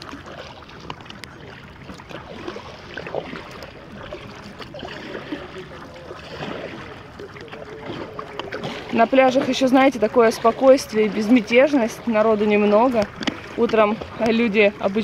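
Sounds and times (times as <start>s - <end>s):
paddle stroke splashes: 0.0s - 15.0s
water lapping against paddleboard: 0.0s - 15.0s.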